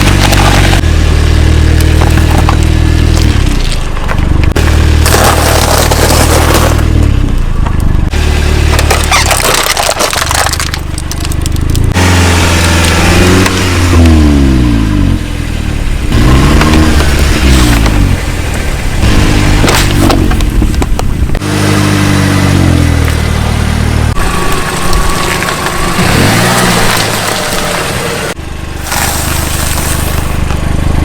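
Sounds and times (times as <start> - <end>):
car engine running: 0.0 - 31.0
objects crunching under tyres: 0.0 - 31.0.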